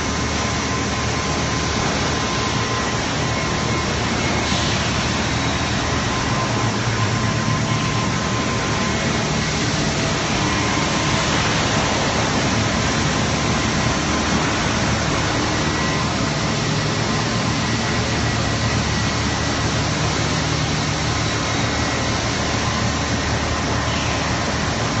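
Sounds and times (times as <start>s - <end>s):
factory machinery din: 0.0s - 25.0s
thin whine: 0.0s - 25.0s.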